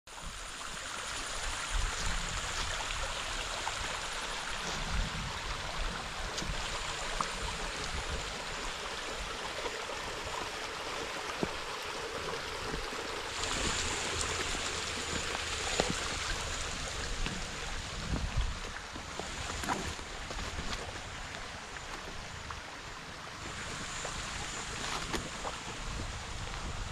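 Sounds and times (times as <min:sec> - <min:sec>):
stream rushing over rock: 0:00.1 - 0:26.9.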